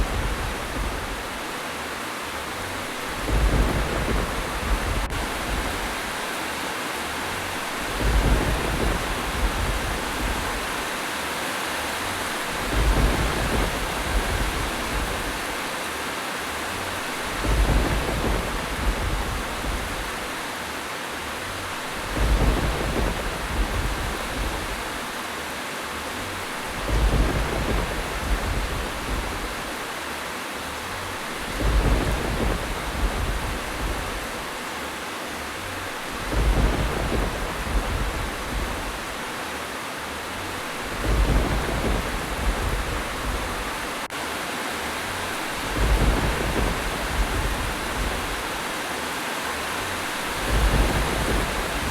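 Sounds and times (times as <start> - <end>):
low rumbles of thunder: 0.0 - 1.6, 2.5 - 6.3, 7.2 - 11.0, 12.0 - 15.7, 16.7 - 20.5, 21.3 - 25.2, 26.0 - 30.1, 30.7 - 34.6, 35.5 - 39.5, 40.3 - 44.1, 45.2 - 48.8, 49.7 - 51.9
rain hissing: 0.0 - 51.9.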